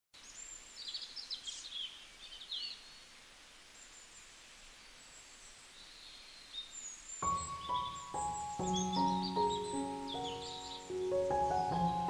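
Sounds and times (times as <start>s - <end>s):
birds chirping: 0.2s - 12.0s
faint outdoor hiss: 0.2s - 12.0s.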